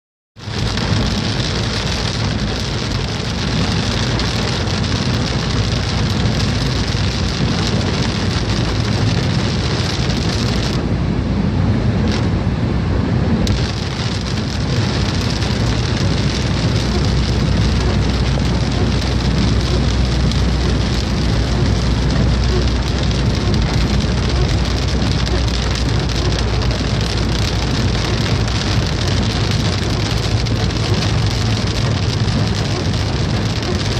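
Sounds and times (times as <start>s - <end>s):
rain hissing: 0.4s - 10.8s, 13.3s - 33.9s
low rumble: 0.4s - 33.9s.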